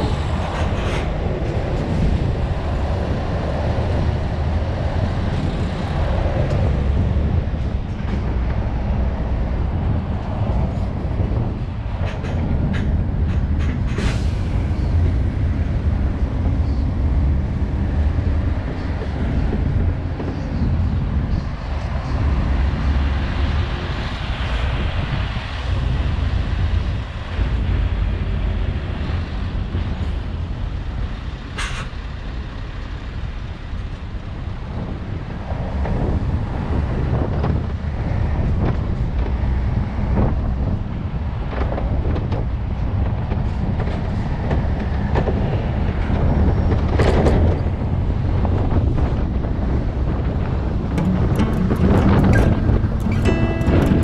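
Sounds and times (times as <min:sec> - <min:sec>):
diesel lorry engine and road rumble: 0:00.0 - 0:54.0.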